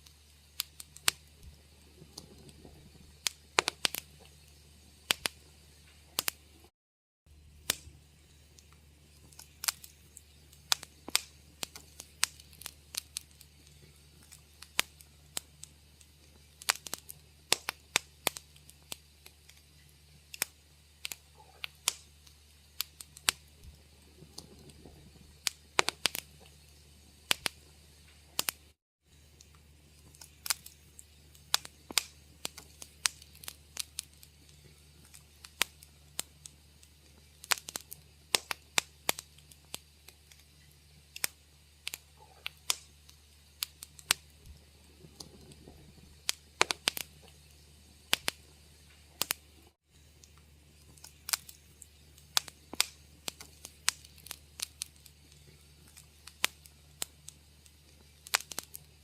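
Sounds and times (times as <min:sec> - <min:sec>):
faint low hum: 0:00.0 - 0:06.7, 0:07.3 - 0:59.0
wood fire crackling: 0:00.0 - 0:06.7, 0:07.3 - 0:59.0.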